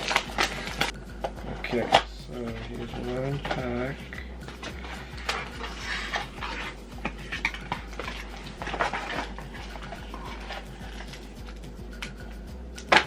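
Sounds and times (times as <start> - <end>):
card packaging crinkling: 0.0 - 11.6.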